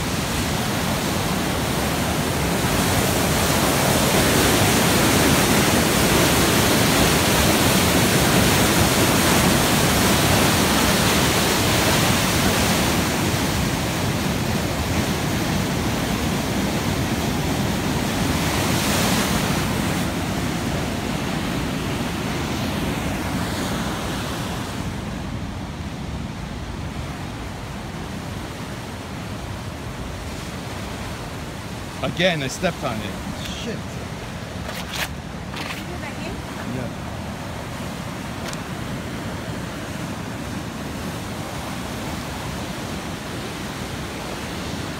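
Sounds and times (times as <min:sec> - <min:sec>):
water rushing through sluice: 0:00.0 - 0:24.9, 0:29.8 - 0:44.9.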